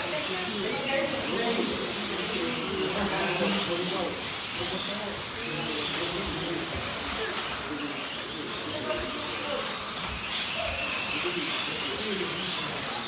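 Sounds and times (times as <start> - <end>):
faint voices: 0.0 - 13.0
slot cars hissing on track: 0.0 - 13.0.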